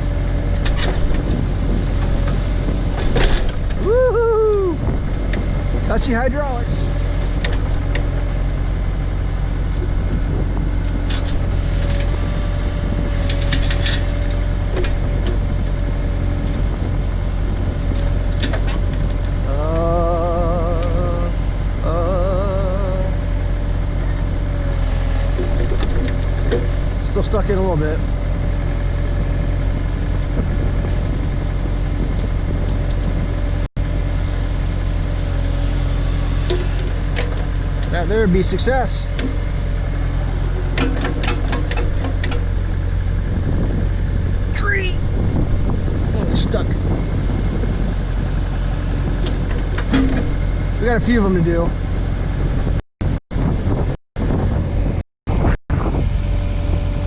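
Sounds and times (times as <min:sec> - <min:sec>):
backhoe engine running: 0:00.0 - 0:57.0
hydraulic whine: 0:06.5 - 0:57.0.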